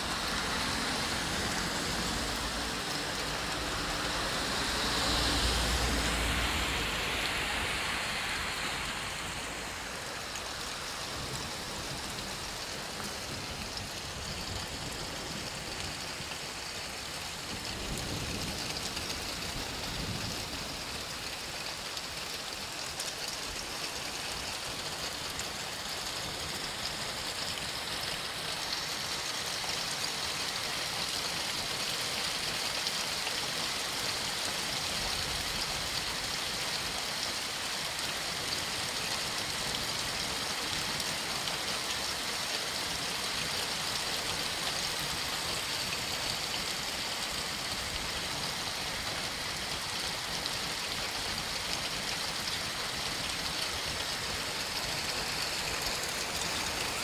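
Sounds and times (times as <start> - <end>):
heavy rain and hail: 0.0 - 57.0.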